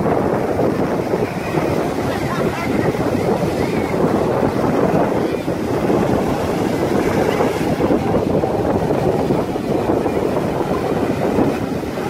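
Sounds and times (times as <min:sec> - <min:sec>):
breaking surf: 0:00.0 - 0:12.0
wind buffeting microphone: 0:00.0 - 0:12.0.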